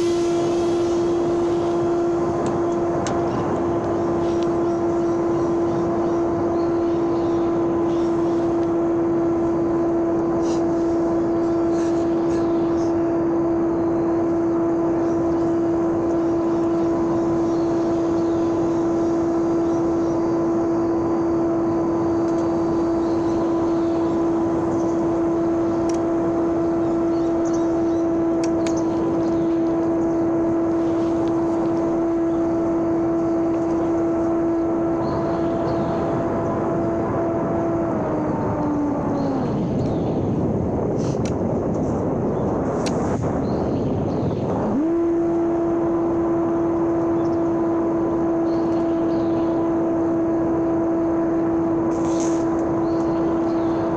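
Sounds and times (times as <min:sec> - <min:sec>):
model airplane motor whining: 0:00.0 - 0:53.9.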